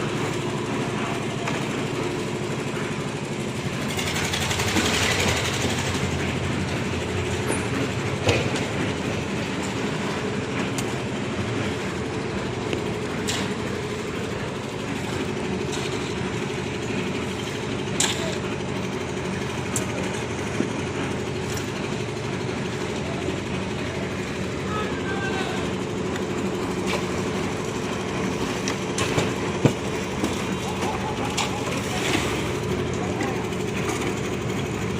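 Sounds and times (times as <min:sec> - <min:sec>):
machine engine running: 0:00.0 - 0:34.9.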